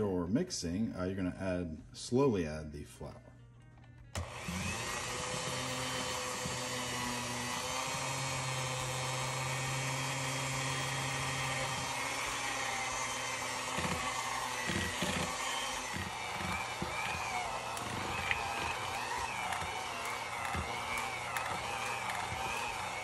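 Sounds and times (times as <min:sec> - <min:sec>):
electric hand mixer running: 0:04.2 - 0:23.0.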